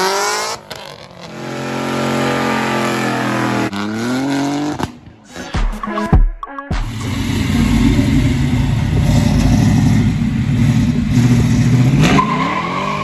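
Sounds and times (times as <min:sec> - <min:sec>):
car engine revving: 0:00.0 - 0:05.0, 0:06.9 - 0:13.0.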